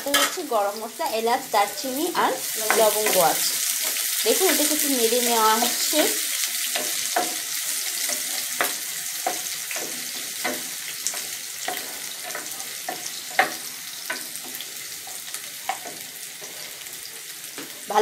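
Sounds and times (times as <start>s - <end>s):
onions sizzling in hot oil: 0.0s - 18.0s
spatula scraping a pan: 1.9s - 17.0s.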